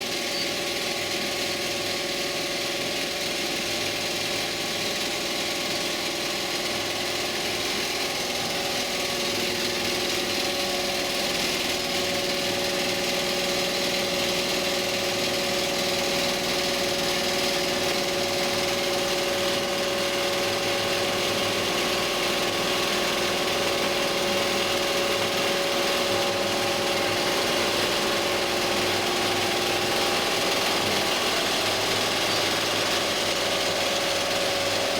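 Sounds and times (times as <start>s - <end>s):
quilting machine running: 0.0s - 34.9s.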